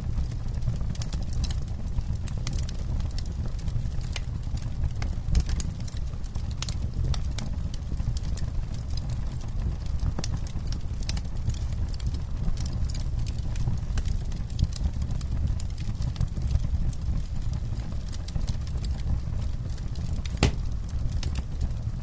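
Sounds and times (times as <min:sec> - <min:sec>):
campfire flames rumbling: 0:00.0 - 0:22.0
wood crackling and popping: 0:00.0 - 0:22.0.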